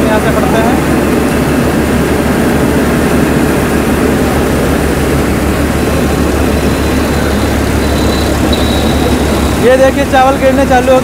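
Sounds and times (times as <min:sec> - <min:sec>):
tractor engine driving rice mill: 0:00.0 - 0:11.0.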